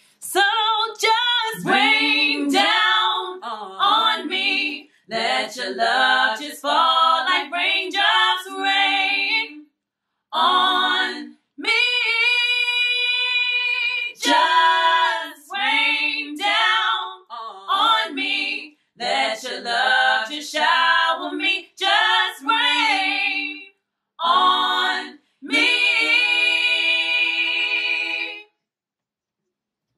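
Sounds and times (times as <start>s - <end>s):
a cappella vocal harmonies: 0.0s - 28.6s.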